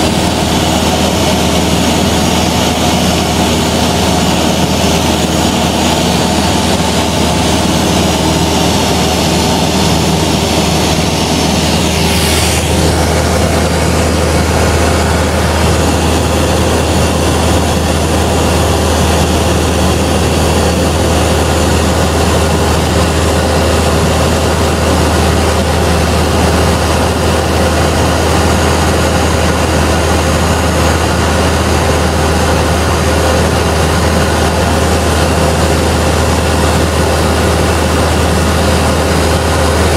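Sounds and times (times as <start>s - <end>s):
propeller plane engine droning: 0.0s - 39.9s
rushing air noise: 0.0s - 39.9s.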